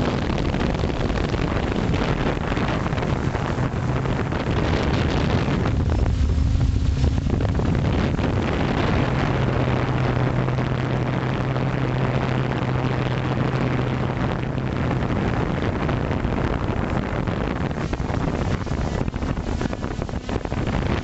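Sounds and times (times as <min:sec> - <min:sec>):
drone propellers buzzing: 0:00.0 - 0:21.0
low hum: 0:00.0 - 0:21.0
wind rushing over microphone: 0:00.0 - 0:21.0.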